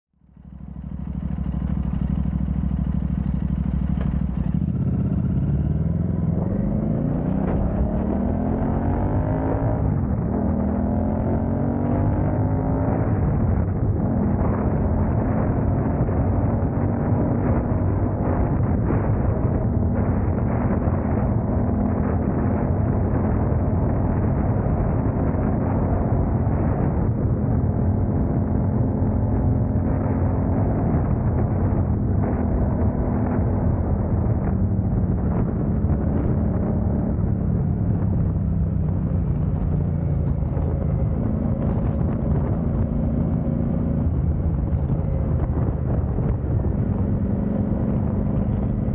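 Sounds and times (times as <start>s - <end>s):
car engine and road rumble: 0.1s - 48.9s.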